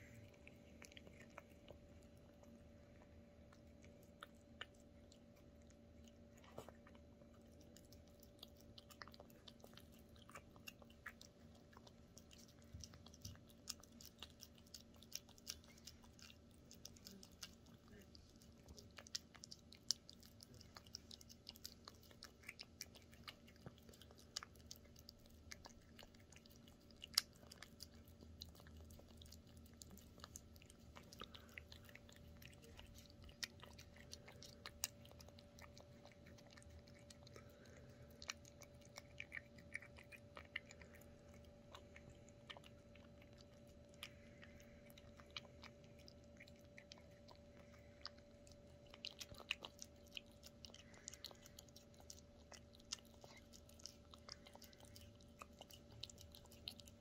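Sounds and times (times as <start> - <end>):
cat chewing wet food: 0.0 - 57.0
faint steady hum: 0.0 - 57.0.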